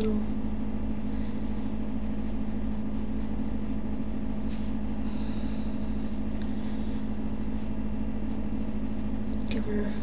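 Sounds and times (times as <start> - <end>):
steady low hum: 0.0 - 10.0
pencil scratching on paper: 0.4 - 10.0.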